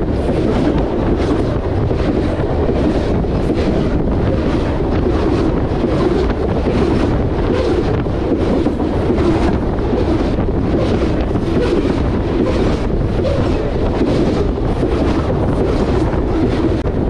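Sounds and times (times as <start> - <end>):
freight train wheels roaring: 0.0 - 17.0
wind on microphone: 0.0 - 17.0.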